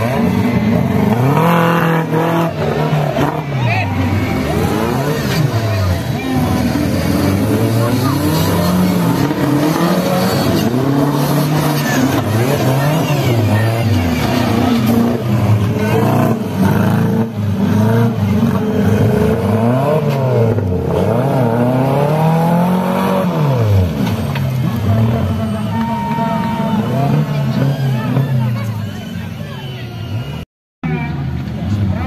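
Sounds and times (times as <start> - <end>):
buggy engines revving: 0.0 - 32.0.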